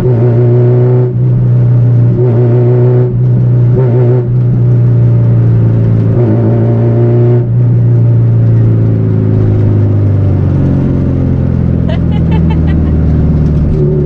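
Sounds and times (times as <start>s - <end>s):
car engine and exhaust droning: 0.0s - 14.0s.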